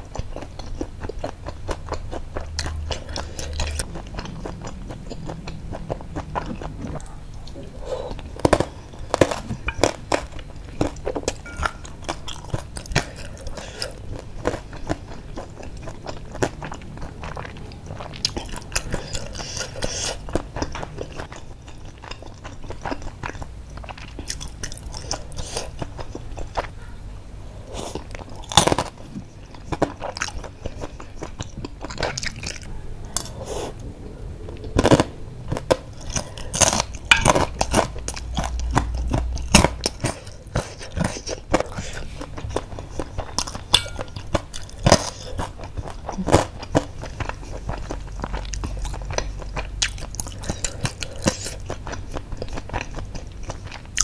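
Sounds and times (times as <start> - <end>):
person chewing and crunching: 0.0 - 26.7, 27.6 - 54.0.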